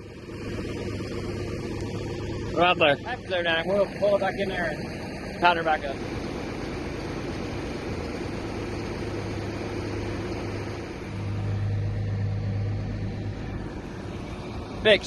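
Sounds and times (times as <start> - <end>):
diesel engine running: 0.0 - 15.0
low hum: 0.0 - 15.0.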